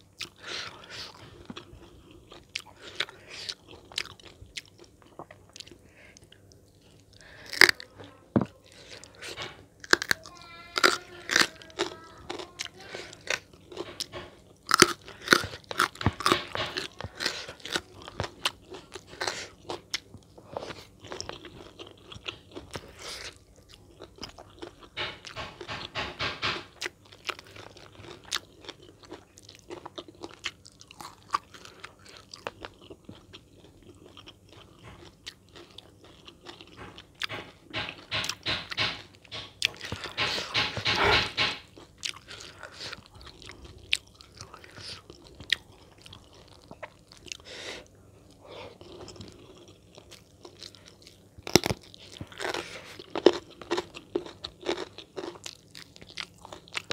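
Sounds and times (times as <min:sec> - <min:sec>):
crunchy food chewing: 0:00.0 - 0:56.9.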